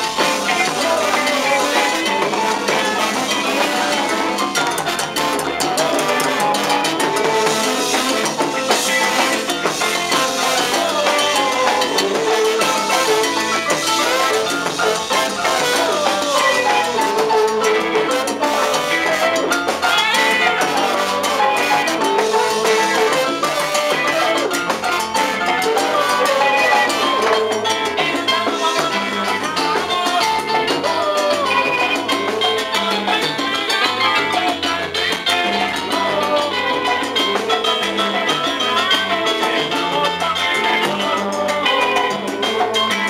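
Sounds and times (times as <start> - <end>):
drums and percussion: 0.0 - 43.0
person singing into microphone: 0.0 - 43.0
salsa band playing: 0.0 - 43.0.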